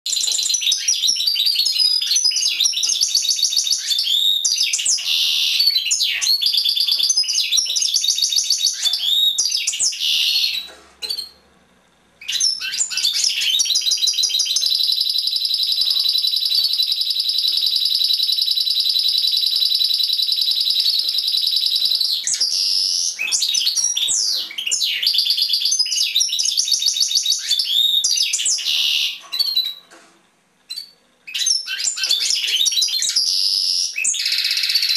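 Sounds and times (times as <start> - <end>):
bird trill: 0.1 - 11.4, 12.2 - 29.9, 30.7 - 34.9.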